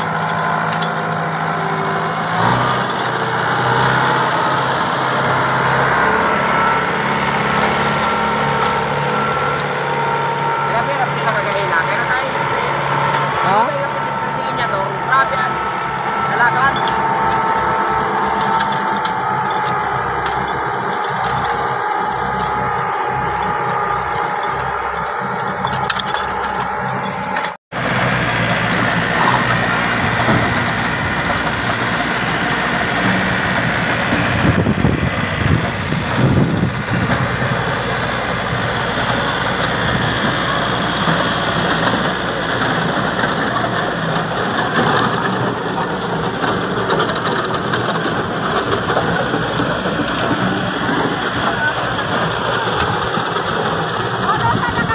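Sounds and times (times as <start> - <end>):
rough tractor engine with tiller: 0.0 - 54.9
tractor diesel engine running: 0.0 - 54.9.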